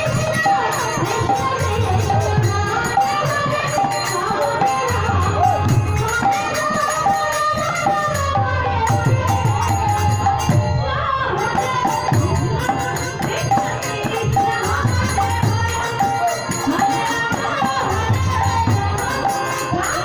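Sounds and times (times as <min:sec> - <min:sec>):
harmonium: 0:00.0 - 0:20.0
jingling hand cymbals: 0:00.0 - 0:20.0.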